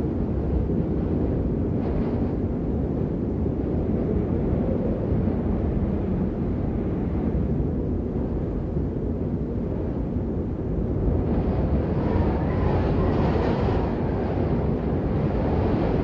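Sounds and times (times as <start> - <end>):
blizzard wind blowing: 0.0 - 16.0.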